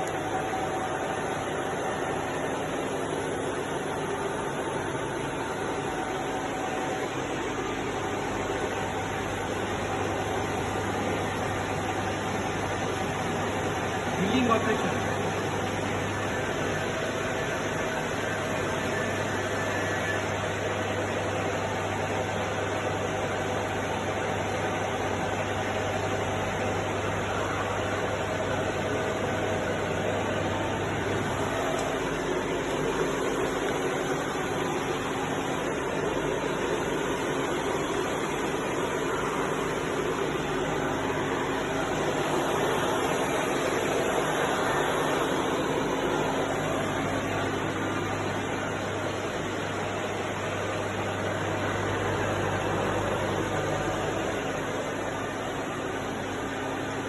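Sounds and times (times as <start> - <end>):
milling machine running: 0.0 - 57.0.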